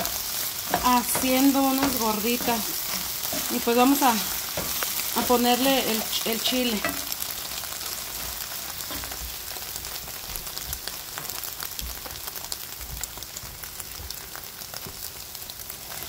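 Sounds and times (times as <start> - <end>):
eggs sizzling in oil: 0.0 - 16.0.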